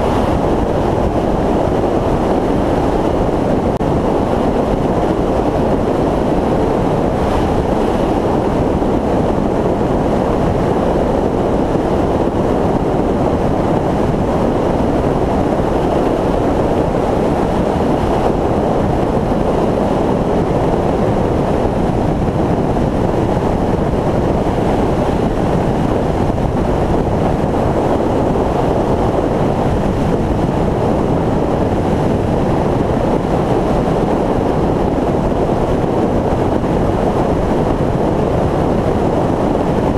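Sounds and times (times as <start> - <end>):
motorcycle road noise: 0.0 - 39.9
wind rush: 0.0 - 39.9.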